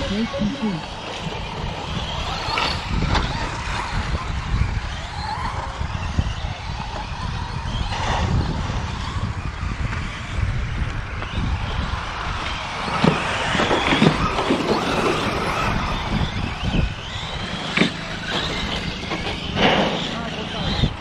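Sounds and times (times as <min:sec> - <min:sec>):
toy car motors whining: 0:00.0 - 0:21.0.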